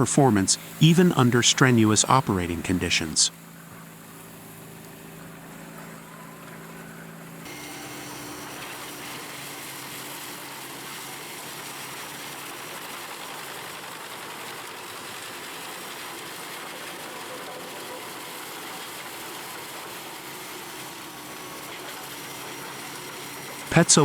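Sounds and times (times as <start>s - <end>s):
wood chipper running: 3.4s - 24.0s.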